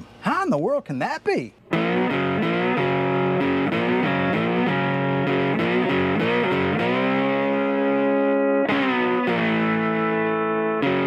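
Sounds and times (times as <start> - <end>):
distorted electric guitar chords: 1.6 - 11.0.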